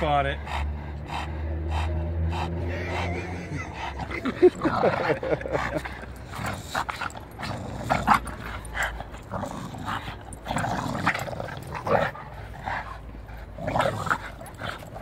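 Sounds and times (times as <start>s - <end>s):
dogs growling and breathing hard: 0.0s - 15.0s.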